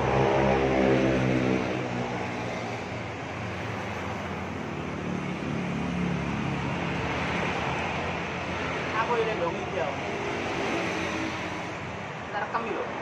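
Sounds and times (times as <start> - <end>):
vehicle engine passing: 0.0 - 11.9
steady traffic hum: 0.0 - 13.0.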